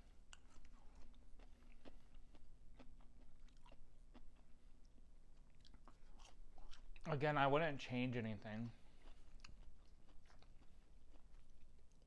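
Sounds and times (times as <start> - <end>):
person chewing food: 0.0 - 7.1, 8.4 - 12.0.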